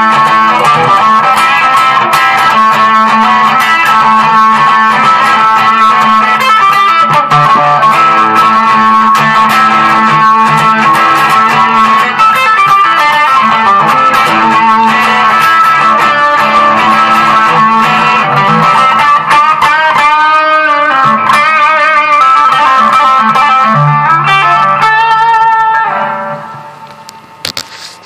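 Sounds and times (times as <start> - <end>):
electric guitar solo: 0.0 - 28.0.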